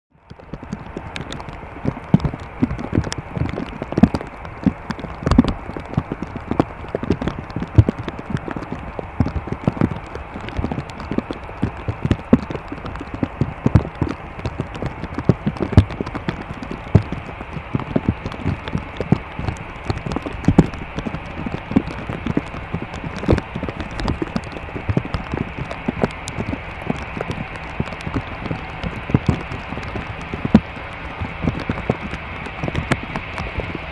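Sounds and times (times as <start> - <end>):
steady rushing background noise: 0.1 - 33.9
raindrops tapping on hard surface: 0.2 - 33.9.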